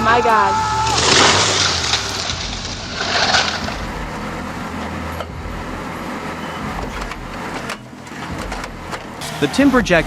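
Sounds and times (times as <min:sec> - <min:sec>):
heavy machine engine running: 0:00.9 - 0:09.4.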